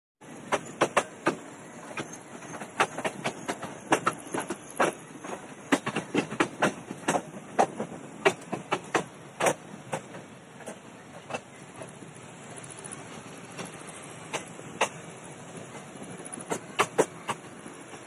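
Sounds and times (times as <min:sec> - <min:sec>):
rolling noise of railway coach: 0:00.2 - 0:18.0
train wheels clattering over rail joints: 0:00.2 - 0:18.0.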